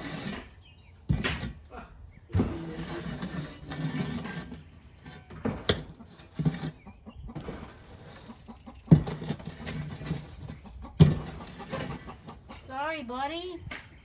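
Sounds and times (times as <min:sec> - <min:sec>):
hens clucking: 0:01.6 - 0:14.0.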